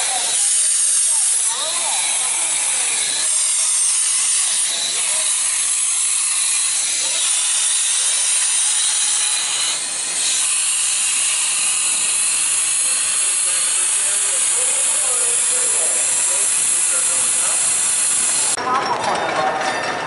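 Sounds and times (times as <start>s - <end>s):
steam locomotive hissing: 0.0s - 18.6s.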